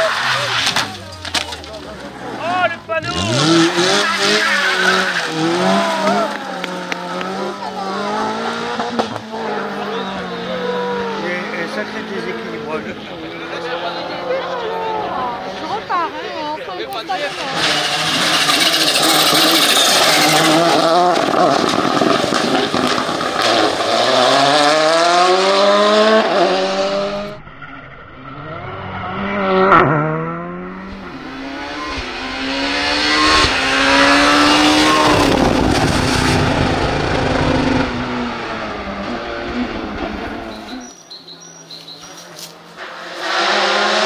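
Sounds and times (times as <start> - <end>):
rally car engines at full throttle: 0.0 - 44.0.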